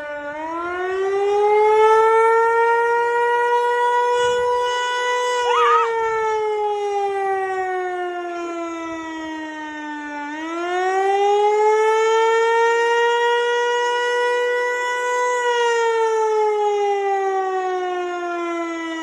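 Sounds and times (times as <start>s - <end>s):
warning siren wailing: 0.0s - 19.0s.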